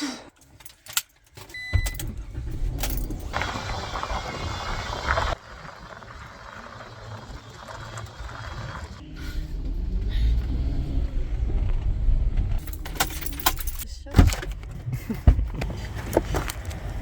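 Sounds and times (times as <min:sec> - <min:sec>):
vehicle rumble: 0:00.6 - 0:17.0.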